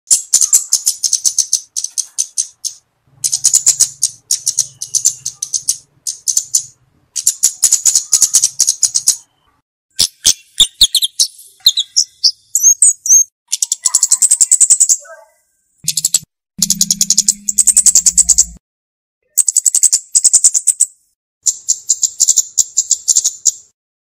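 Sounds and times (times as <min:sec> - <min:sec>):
bird ticking chips: 0:00.1 - 0:09.2, 0:10.0 - 0:15.0, 0:15.8 - 0:18.6, 0:19.3 - 0:23.7.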